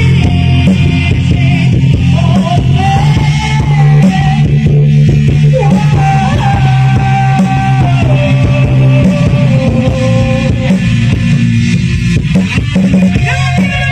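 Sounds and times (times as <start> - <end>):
live rock band playing: 0.0 - 13.9.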